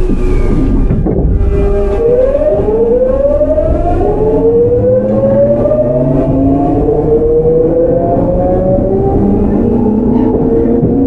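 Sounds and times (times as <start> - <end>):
low rumble of train: 0.0 - 11.0
train inverter whining: 0.0 - 11.0.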